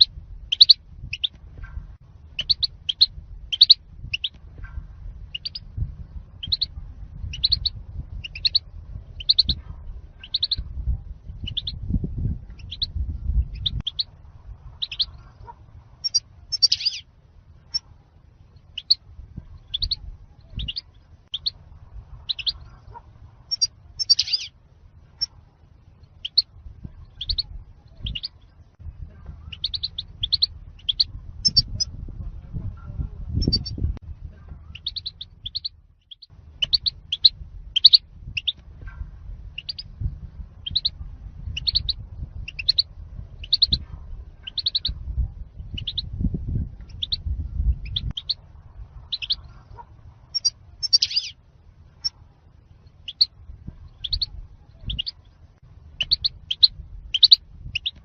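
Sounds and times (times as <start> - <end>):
bird chirping: 0.0 - 1.4, 2.3 - 5.8, 6.4 - 9.6, 10.2 - 10.7, 11.3 - 17.9, 18.5 - 21.6, 22.2 - 31.9, 33.4 - 33.8, 34.6 - 39.0, 39.6 - 40.0, 40.6 - 46.2, 46.8 - 51.4, 52.0 - 58.0
low rumble: 0.0 - 58.0.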